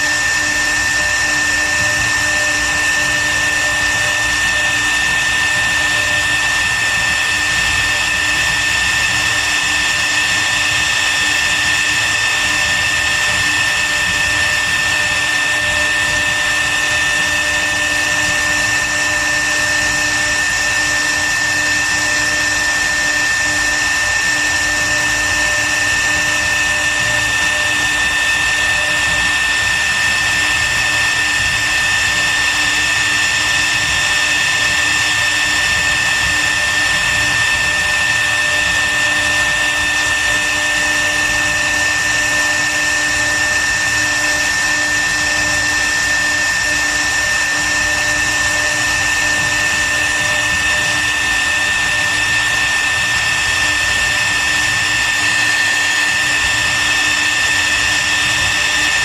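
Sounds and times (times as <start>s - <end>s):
router spindle whining: 0.0s - 59.0s.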